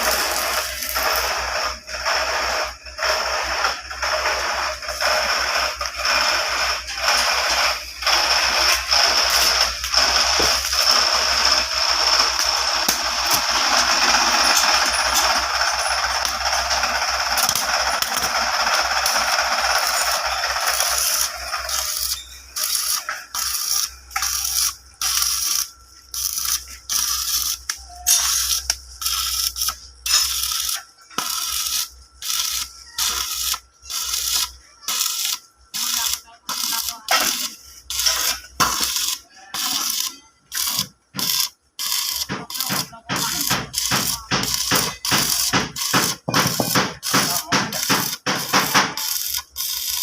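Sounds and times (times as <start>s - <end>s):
arc welder crackling: 0.0s - 50.0s.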